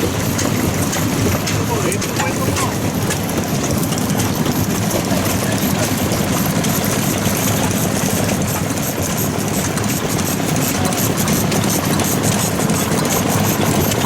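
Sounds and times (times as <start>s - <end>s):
old engine chugging at idle: 0.0s - 14.0s.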